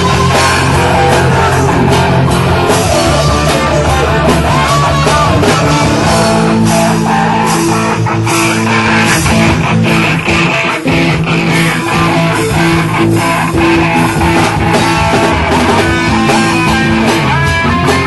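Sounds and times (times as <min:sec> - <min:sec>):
bass guitar: 0:00.0 - 0:18.0
drum kit: 0:00.0 - 0:18.0
electric guitar lead: 0:00.0 - 0:18.0.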